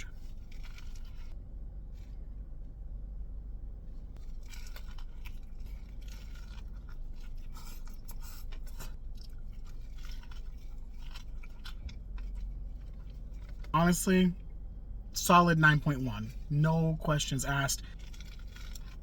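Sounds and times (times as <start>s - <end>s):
crunchy chewing of fried chicken: 0.0s - 2.4s, 3.8s - 19.0s.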